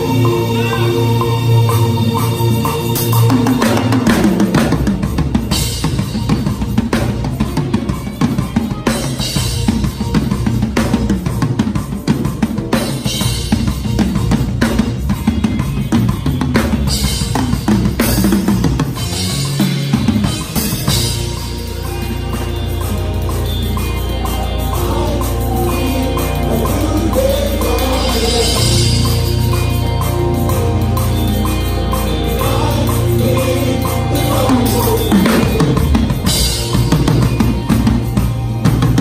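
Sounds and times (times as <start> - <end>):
drum kit played fast: 0.0 - 39.0.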